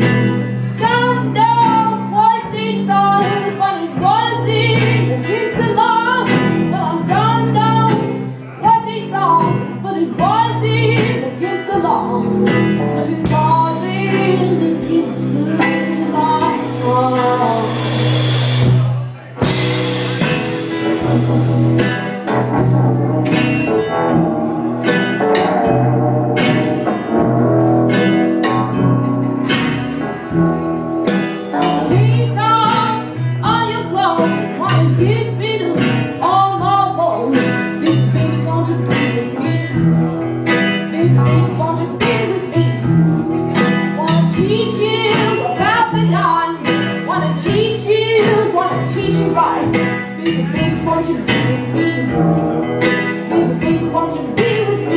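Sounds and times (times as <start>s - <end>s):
drums: 0.0s - 54.9s
electric guitar lead: 0.0s - 54.9s
upright double bass: 0.0s - 54.9s.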